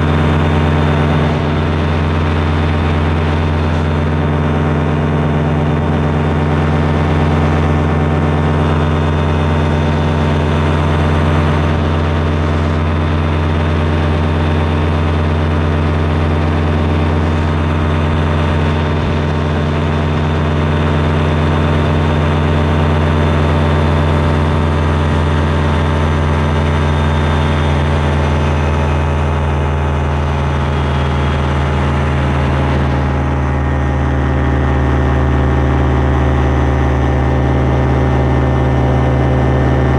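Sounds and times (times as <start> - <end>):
small aircraft engine droning: 0.0 - 39.9.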